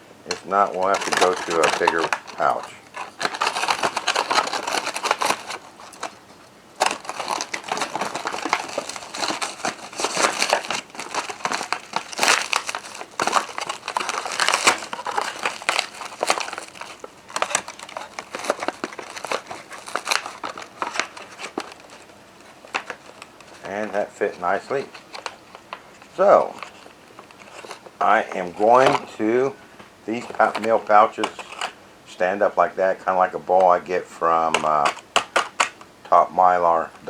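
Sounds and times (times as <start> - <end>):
crunchy crackles: 0.2 - 37.0
plastic pouch crinkling: 0.3 - 31.8.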